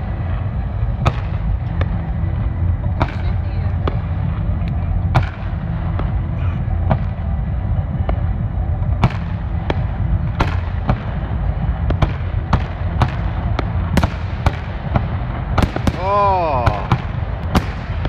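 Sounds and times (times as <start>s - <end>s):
fireworks bursting with sharp bangs: 0.0s - 18.0s
low rumble: 0.0s - 18.0s.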